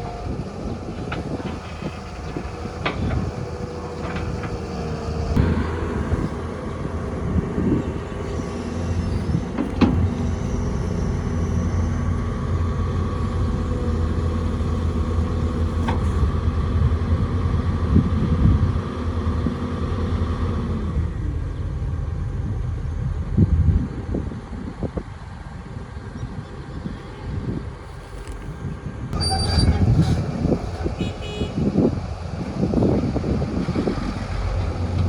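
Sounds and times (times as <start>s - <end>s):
heavy diesel engine running: 0.0s - 28.4s, 29.0s - 35.0s.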